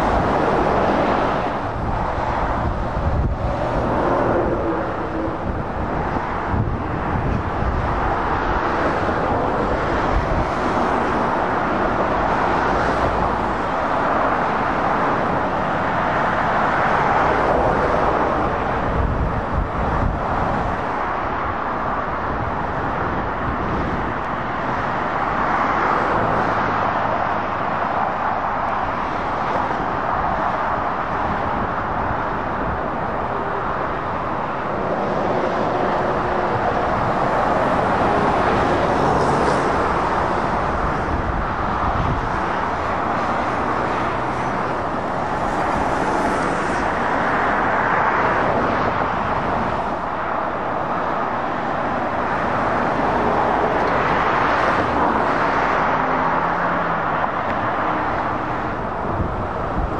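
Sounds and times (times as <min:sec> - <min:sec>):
diesel engine noise: 0:00.0 - 0:59.9
traffic passing close by: 0:00.0 - 0:59.9.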